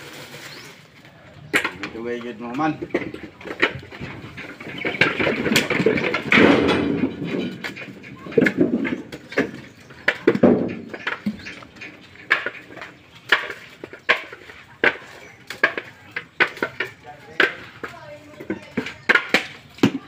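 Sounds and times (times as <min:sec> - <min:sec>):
coconuts knocking together: 0:01.3 - 0:20.0.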